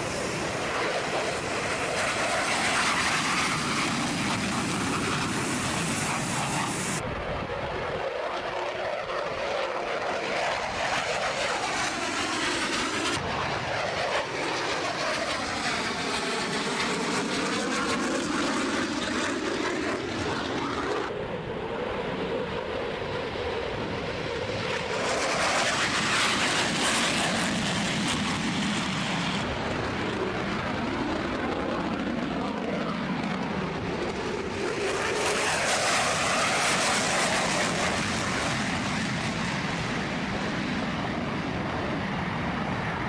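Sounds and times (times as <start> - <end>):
fighter jets passing: 0.0 - 43.0.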